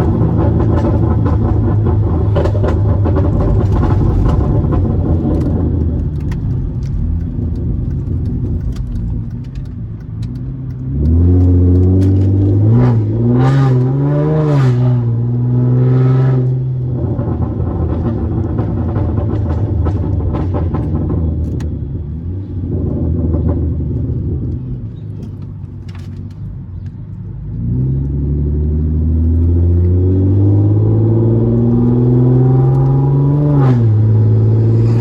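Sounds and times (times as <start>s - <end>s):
car exhaust rumbling and revving: 0.0s - 35.0s.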